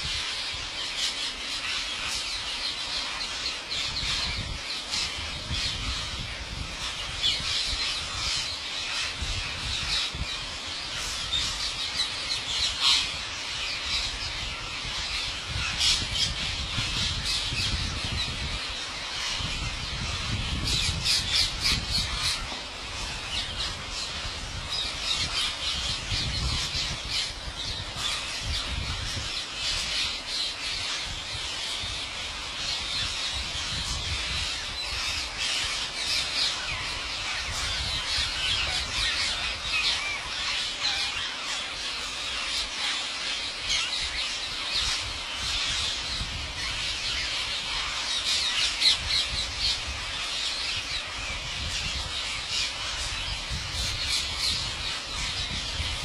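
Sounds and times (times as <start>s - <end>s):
parakeets screeching: 0.1s - 56.0s.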